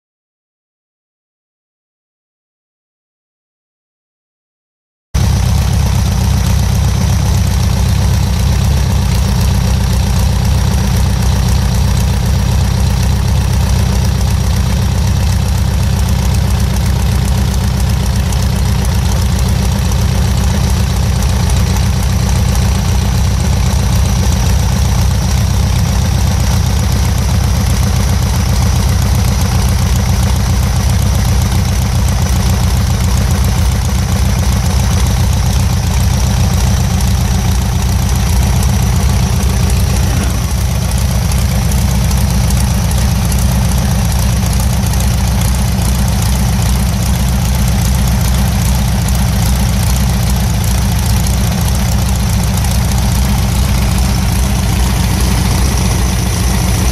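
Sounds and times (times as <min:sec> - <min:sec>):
car engine idling: 0:05.2 - 0:56.9.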